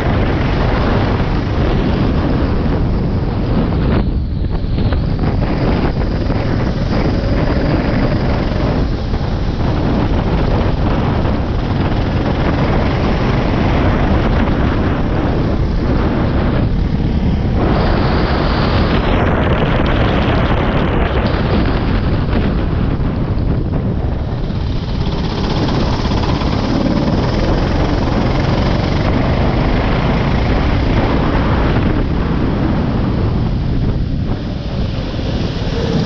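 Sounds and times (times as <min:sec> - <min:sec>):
go-kart engine running: 0:00.0 - 0:36.0
wind buffeting microphone: 0:00.0 - 0:36.0.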